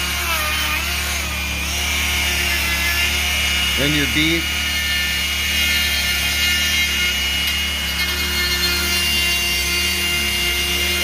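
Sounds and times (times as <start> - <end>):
rotary tool grinding wood: 0.0 - 11.0.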